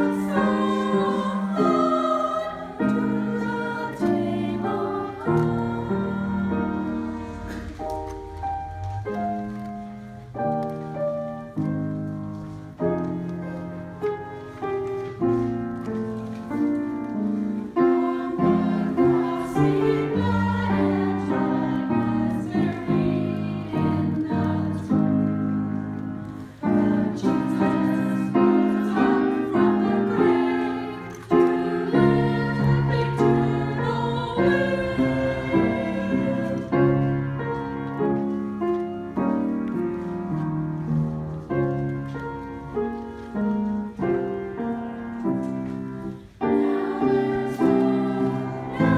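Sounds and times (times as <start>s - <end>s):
church choir singing: 0.0s - 48.9s
piano accompaniment: 0.0s - 48.9s.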